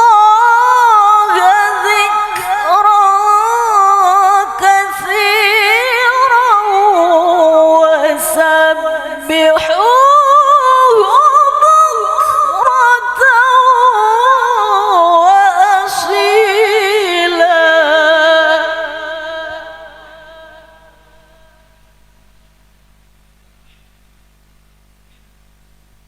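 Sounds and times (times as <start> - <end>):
woman reciting melodically: 0.0 - 21.7.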